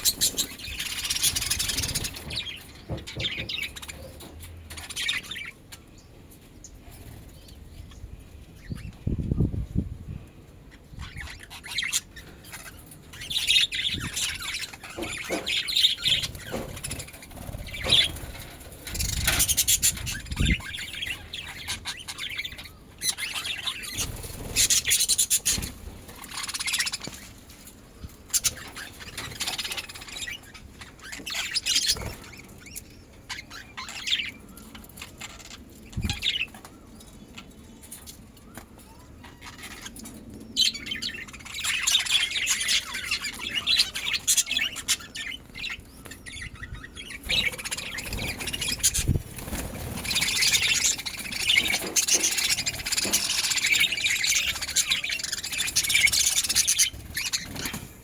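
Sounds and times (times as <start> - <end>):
budgerigars chirping: 0.0 - 5.9, 10.7 - 27.4, 28.2 - 37.5, 38.8 - 58.0.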